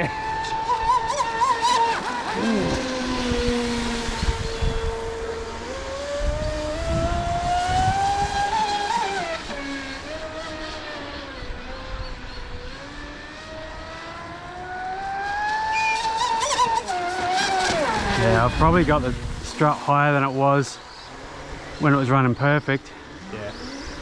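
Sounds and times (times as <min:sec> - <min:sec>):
electric motor whining: 0:00.0 - 0:22.4, 0:23.0 - 0:24.0.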